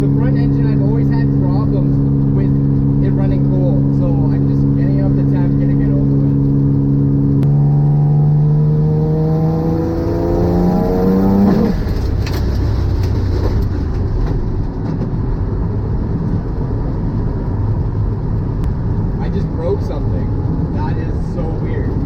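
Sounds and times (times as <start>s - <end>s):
car engine accelerating: 0.0s - 22.0s
loud wind and road noise: 0.0s - 22.0s.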